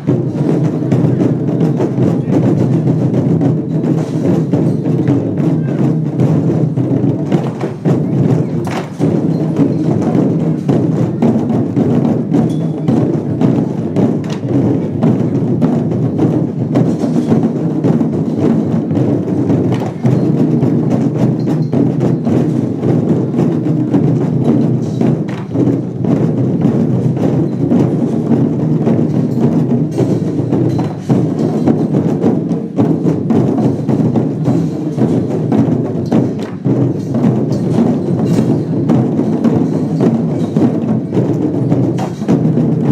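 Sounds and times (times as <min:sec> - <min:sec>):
big drum beating: 0:00.0 - 0:42.9
cymbals: 0:00.0 - 0:42.9.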